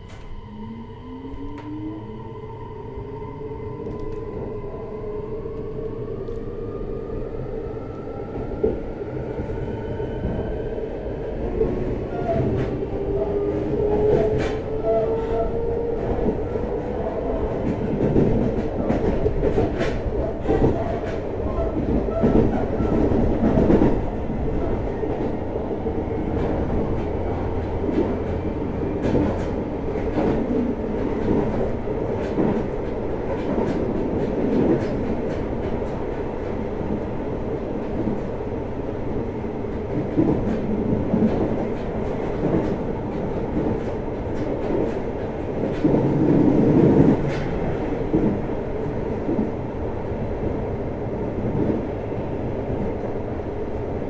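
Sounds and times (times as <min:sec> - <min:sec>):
train wheels rumbling on rail: 0:05.5 - 0:54.0.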